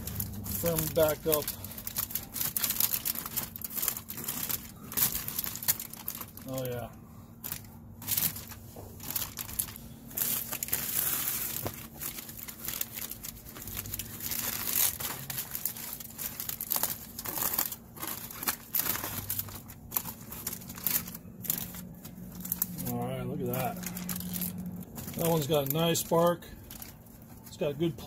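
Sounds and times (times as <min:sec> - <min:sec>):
aluminium foil crinkling: 0:00.0 - 0:28.0.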